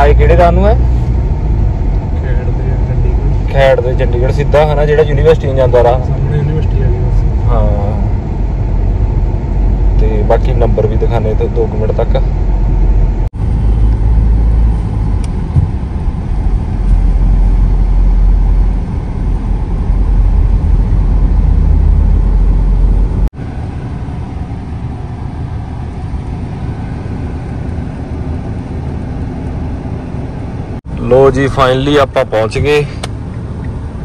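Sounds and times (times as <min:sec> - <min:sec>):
car cabin road and engine rumble: 0:00.0 - 0:34.0.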